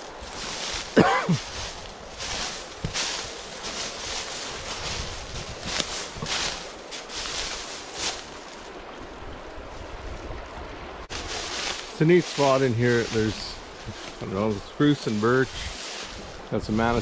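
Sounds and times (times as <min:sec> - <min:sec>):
flowing river water: 0:00.0 - 0:17.0
footsteps crunching through dry grass: 0:00.0 - 0:17.0
wind rumbling on microphone: 0:00.0 - 0:17.0.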